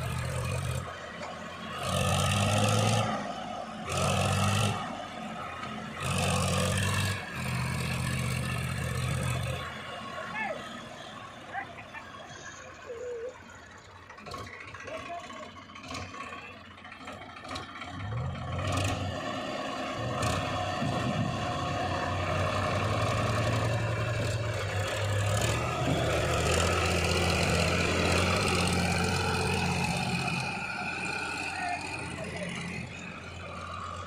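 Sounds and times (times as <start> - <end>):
diesel machinery engine: 0.0 - 34.0.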